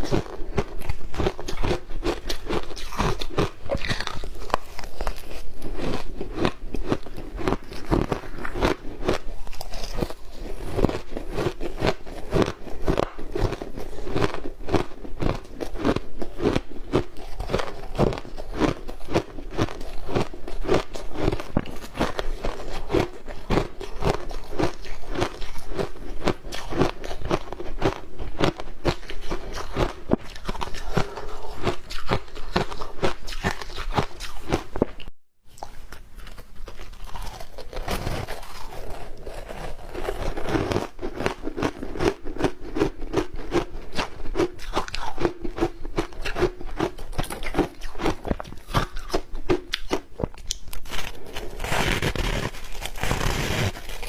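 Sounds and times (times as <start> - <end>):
chewing crunchy ice: 0.0 - 54.0.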